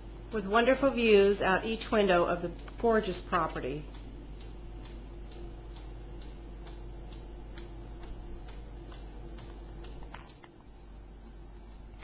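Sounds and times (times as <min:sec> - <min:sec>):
low steady hum: 0:00.0 - 0:12.0
regular ticking: 0:00.0 - 0:12.0.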